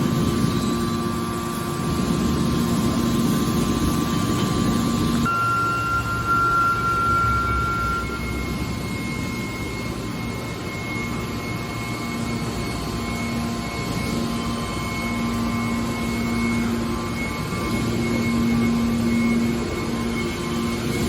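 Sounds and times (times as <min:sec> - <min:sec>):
faint high whine: 0:00.0 - 0:21.0
steady low hum: 0:00.0 - 0:21.0.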